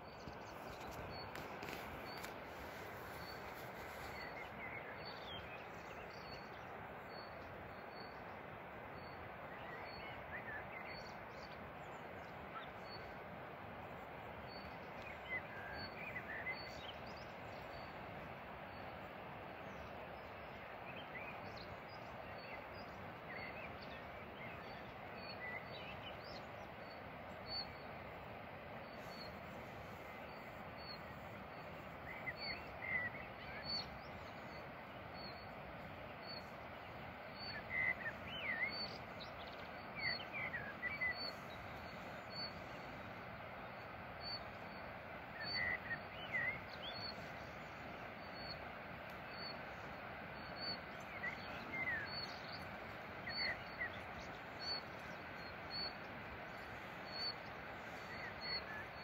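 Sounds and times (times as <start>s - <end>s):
rushing outdoor background: 0.0s - 59.0s
wild birds chirping: 0.0s - 59.0s.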